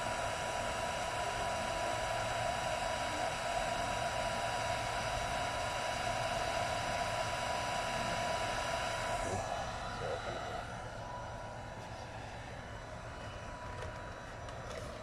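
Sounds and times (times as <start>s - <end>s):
thin steady whines: 0.0s - 15.0s
welding machine cooling fan: 0.0s - 15.0s.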